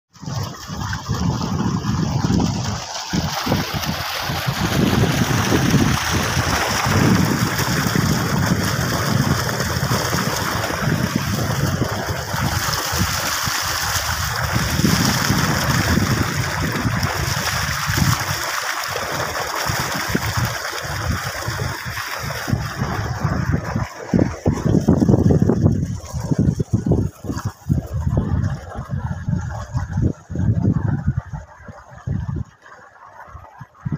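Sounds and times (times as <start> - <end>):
water gushing from a pipe: 0.1 - 33.9.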